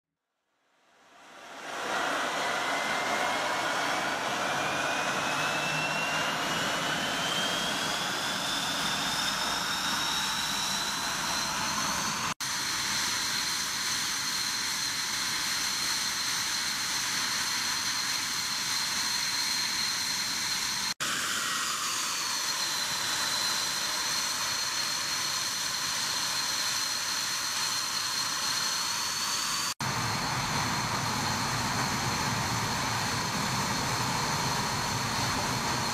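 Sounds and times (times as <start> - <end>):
jet engine starting up whine: 0.9 - 35.9.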